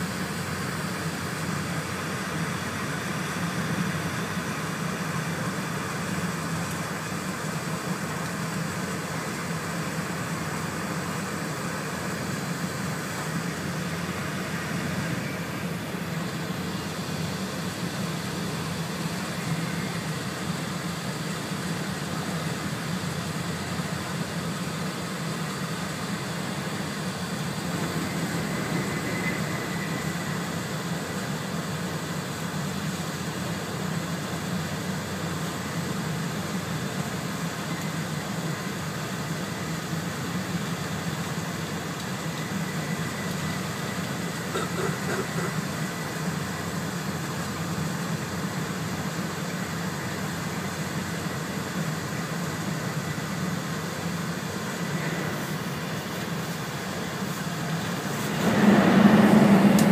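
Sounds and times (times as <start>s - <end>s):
train running rumble: 0.0s - 50.0s, 53.3s - 59.9s
faint high whine: 0.0s - 59.9s.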